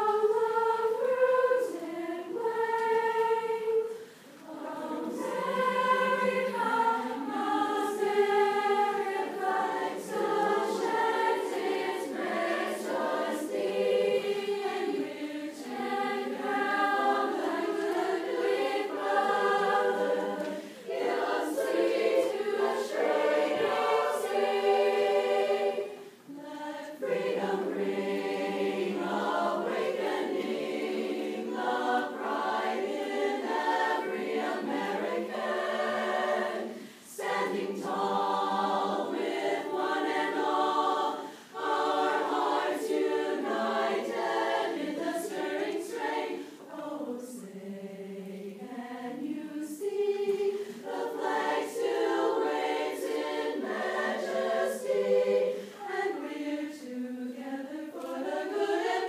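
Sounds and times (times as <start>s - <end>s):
chorus singing a cappella: 0.0s - 59.0s.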